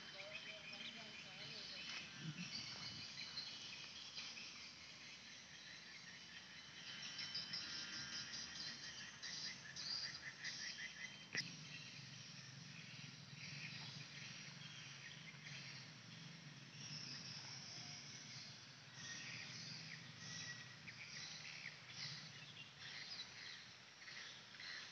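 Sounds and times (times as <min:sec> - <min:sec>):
insects chirping: 0:00.0 - 0:23.6
birds chirping: 0:00.0 - 0:24.9.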